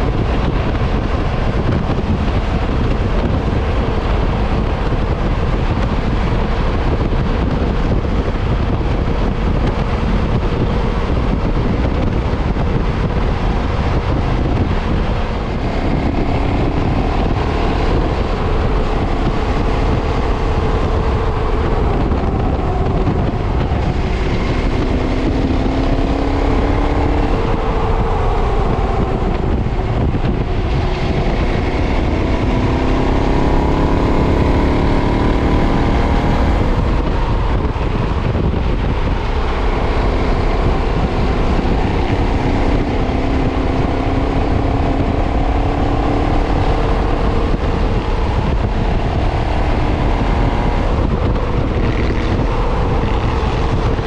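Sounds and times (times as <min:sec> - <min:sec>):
motorcycle engine accelerating: 0:00.0 - 0:54.0
wind rumble: 0:00.0 - 0:54.0.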